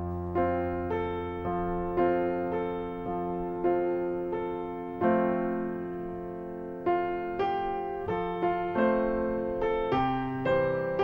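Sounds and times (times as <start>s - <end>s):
solo piano: 0.0s - 11.0s.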